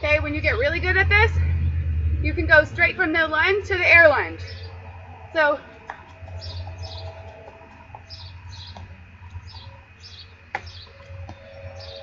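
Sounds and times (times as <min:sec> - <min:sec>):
low steady rumble: 0:00.0 - 0:12.0
songbird chirping: 0:00.0 - 0:12.0.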